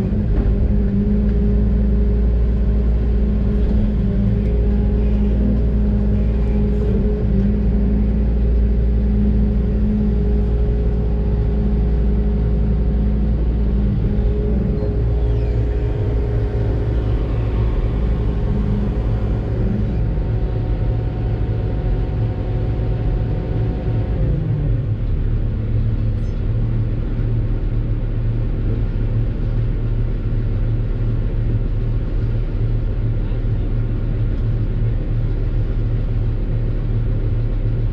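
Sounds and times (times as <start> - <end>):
excavator diesel engine drone: 0.0 - 37.9.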